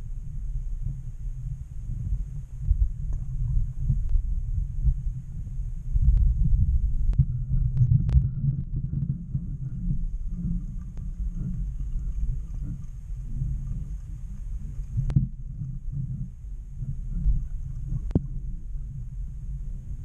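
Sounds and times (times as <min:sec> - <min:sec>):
muffled underwater rumble: 0:00.0 - 0:20.0.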